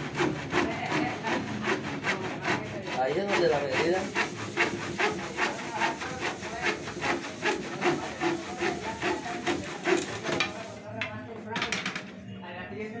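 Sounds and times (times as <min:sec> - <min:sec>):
handsaw cutting wood: 0:00.0 - 0:10.9.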